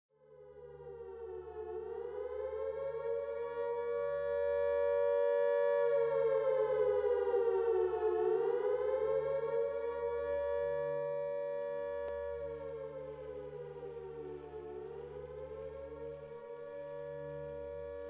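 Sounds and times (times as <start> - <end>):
air-raid siren wailing: 0.3 - 18.0.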